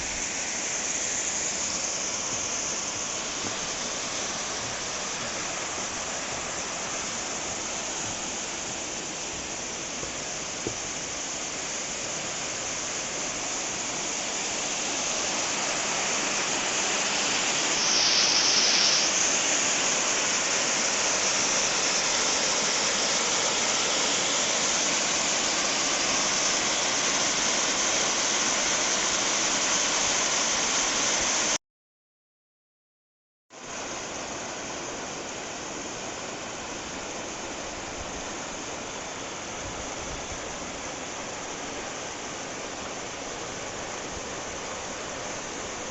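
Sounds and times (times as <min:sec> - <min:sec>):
rushing stream and waterfall: 0:00.0 - 0:31.6, 0:33.5 - 0:45.9.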